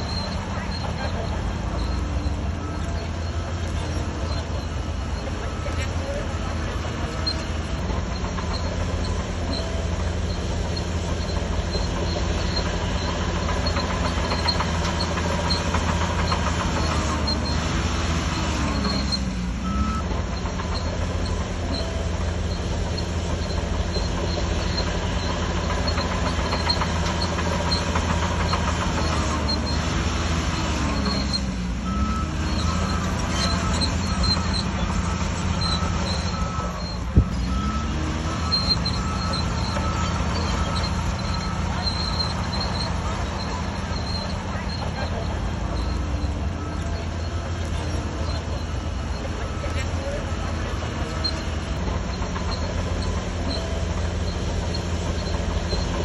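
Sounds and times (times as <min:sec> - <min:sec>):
bulldozer diesel engine under load: 0:00.0 - 0:56.0
metallic squeaking of steel tracks: 0:00.0 - 0:56.0.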